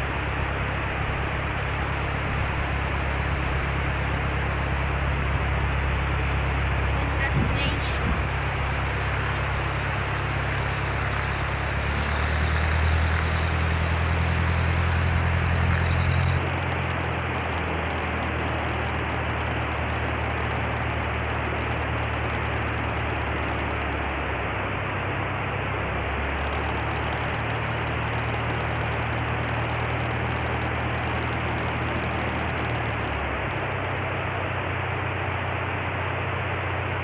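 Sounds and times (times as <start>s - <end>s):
low aircraft engine hum: 0.0s - 37.0s.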